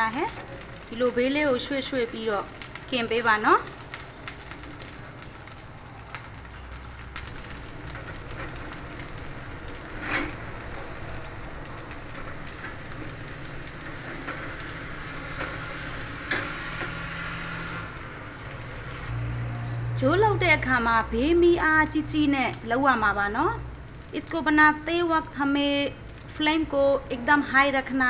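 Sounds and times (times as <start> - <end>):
rice sizzling in a frying pan: 0.0 - 28.0.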